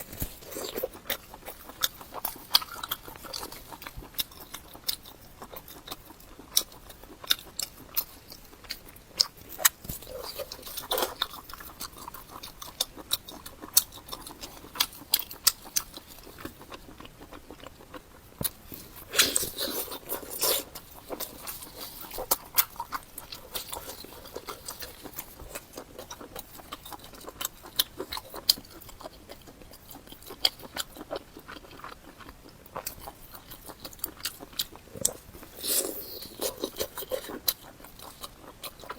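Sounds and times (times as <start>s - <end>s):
close chewing and biting: 0.0s - 38.9s.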